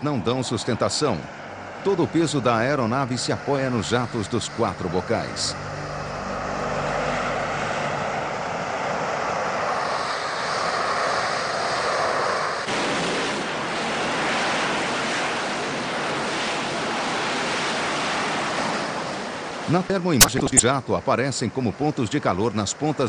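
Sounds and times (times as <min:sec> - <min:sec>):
jet engine roaring: 0:00.0 - 0:20.6.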